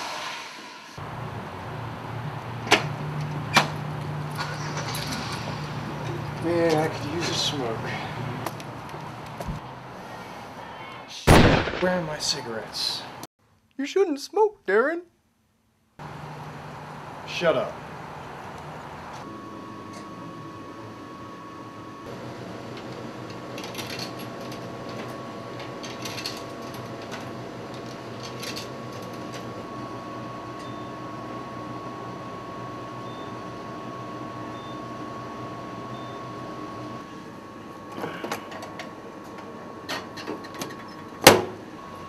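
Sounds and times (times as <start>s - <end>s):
vending machine humming: 1.0s - 9.8s, 16.0s - 42.0s.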